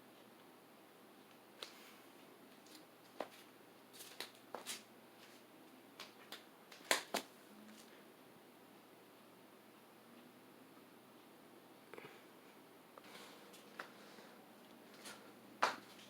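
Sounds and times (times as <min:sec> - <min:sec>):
ceiling fan whirring: 0:00.0 - 0:16.0.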